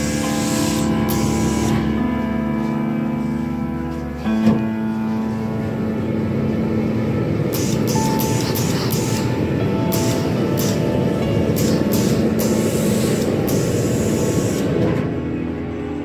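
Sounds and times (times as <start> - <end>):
sustained organ chords: 0.0 - 16.0.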